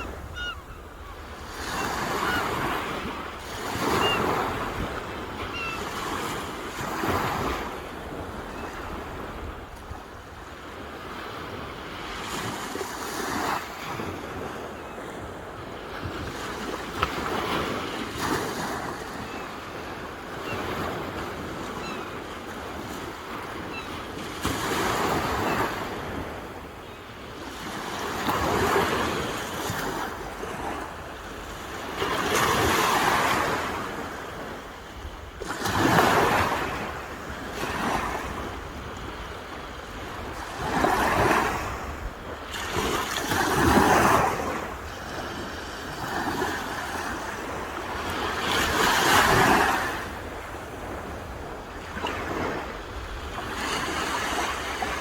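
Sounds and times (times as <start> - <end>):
sea waves breaking on shore: 0.0 - 55.0.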